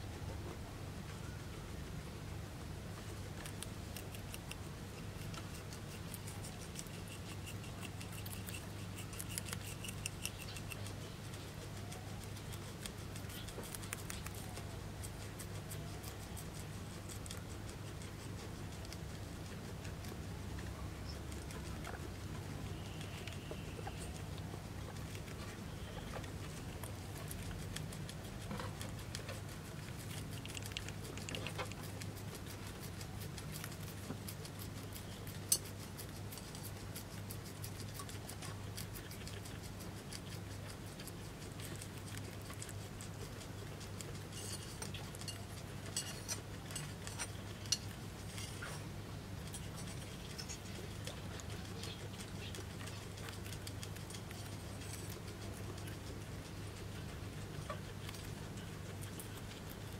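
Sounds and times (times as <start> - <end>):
guinea pig chewing leaves: 0.0 - 59.9
steady low hum: 0.0 - 59.9.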